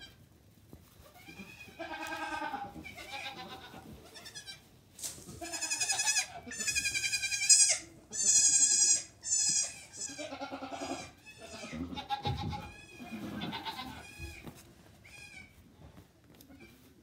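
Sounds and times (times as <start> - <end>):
goat kids bleating: 1.0 - 4.7, 5.3 - 15.6, 16.4 - 17.0.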